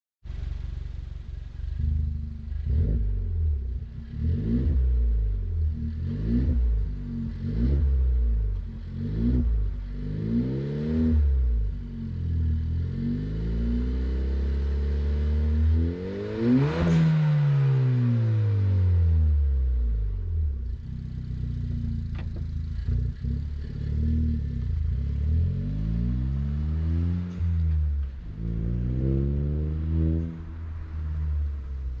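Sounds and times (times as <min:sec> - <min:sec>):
car engine idling and revving: 0:00.2 - 0:32.0.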